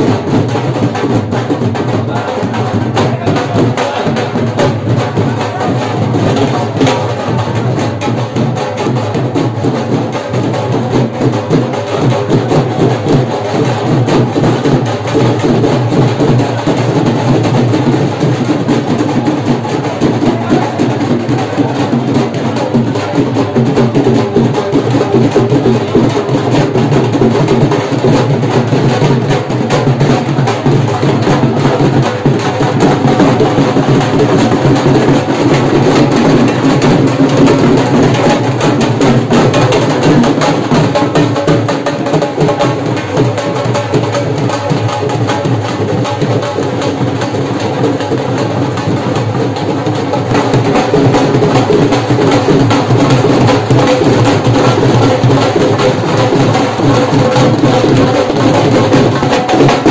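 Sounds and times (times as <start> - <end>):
drums beaten with sticks: 0.0 - 59.9.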